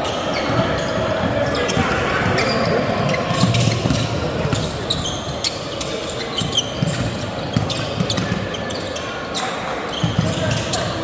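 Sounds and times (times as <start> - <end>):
crowd chatter: 0.0 - 11.0
sneakers squeaking on court: 0.0 - 11.0.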